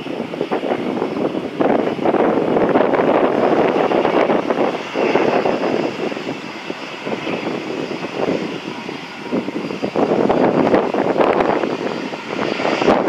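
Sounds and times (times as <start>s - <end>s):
jet engines running at low power: 0.0s - 13.0s.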